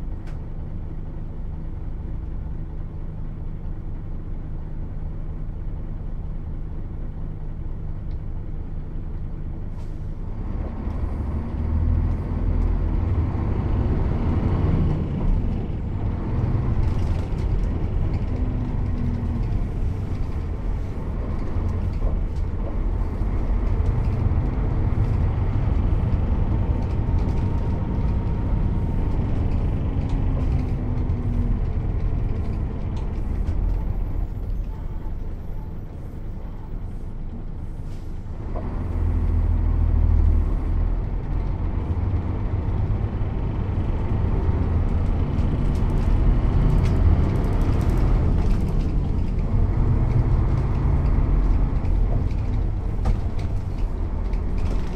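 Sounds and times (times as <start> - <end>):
bus diesel engine revving: 9.6 - 54.9.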